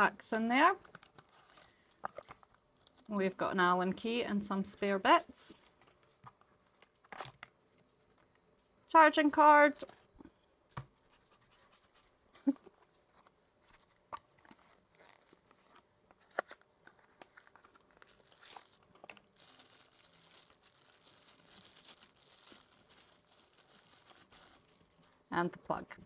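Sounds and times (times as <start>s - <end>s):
soft crinkling of packaging: 0.0s - 25.3s.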